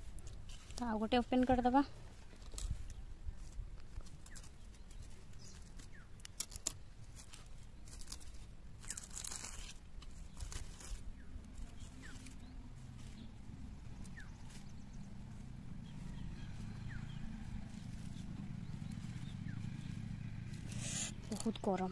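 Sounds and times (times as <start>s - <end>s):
dry leaves crinkling and tearing: 0.1s - 21.9s.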